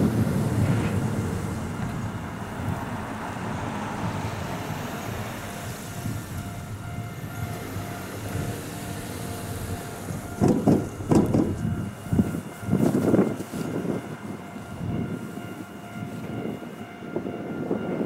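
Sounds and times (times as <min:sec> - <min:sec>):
electric train wheels rumbling on rail: 0:00.0 - 0:18.0.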